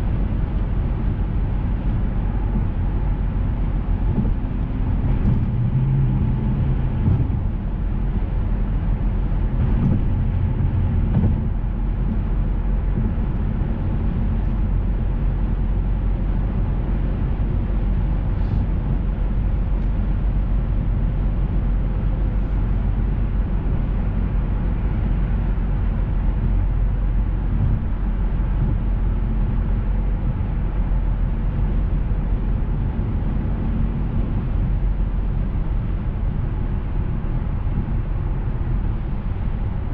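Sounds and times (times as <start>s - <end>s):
car engine drone: 0.0s - 39.9s
road noise: 0.0s - 39.9s.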